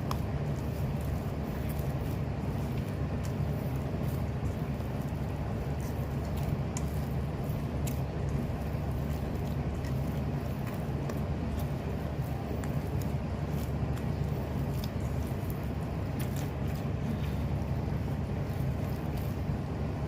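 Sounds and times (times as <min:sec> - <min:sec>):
dough squishing while kneaded: 0:00.0 - 0:20.0
low background hum: 0:00.0 - 0:20.0.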